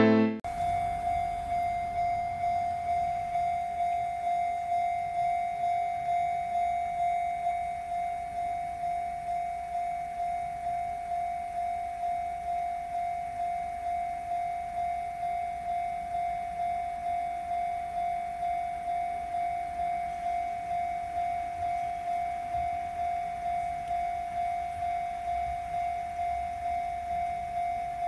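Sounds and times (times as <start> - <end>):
level crossing warning bell: 0.4 - 28.0.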